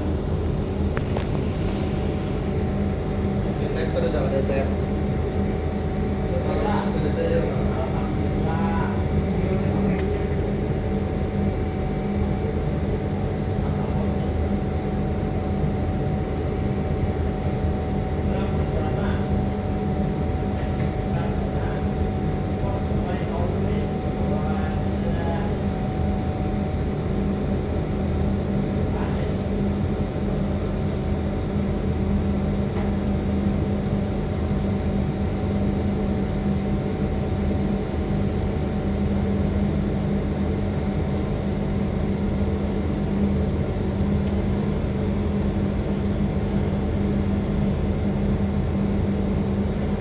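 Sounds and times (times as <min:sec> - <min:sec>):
laser cutter machine hum: 0:00.0 - 0:50.0.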